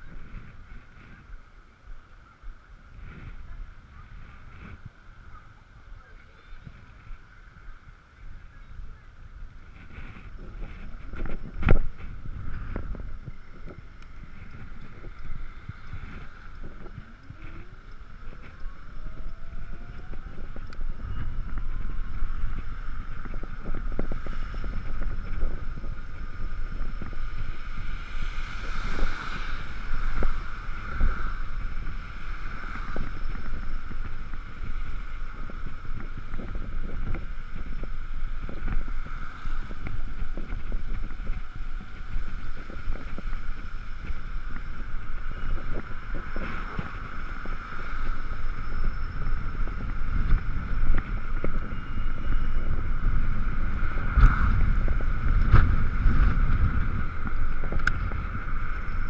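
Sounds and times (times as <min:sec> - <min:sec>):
road noise: 0:00.0 - 0:59.0
wind: 0:00.0 - 0:59.0.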